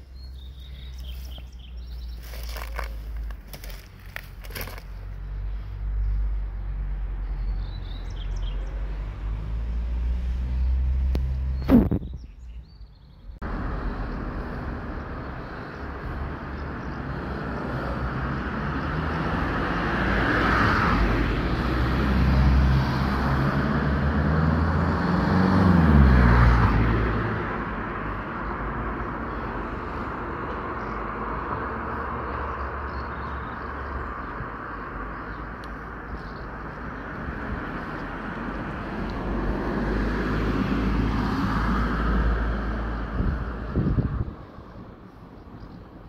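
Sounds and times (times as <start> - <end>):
road traffic rumble and tyre hiss: 0.0 - 46.0
vehicle passing by: 4.6 - 11.9, 13.4 - 45.0.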